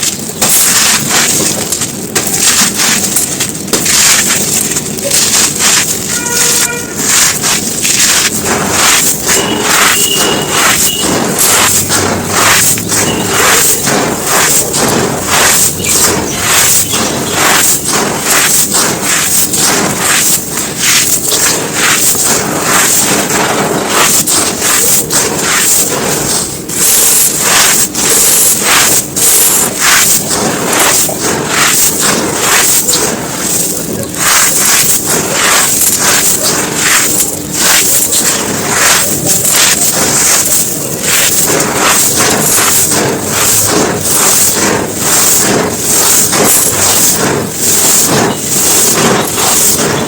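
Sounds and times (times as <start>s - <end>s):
dry lumps crumbled and crushed: 0.0s - 50.0s.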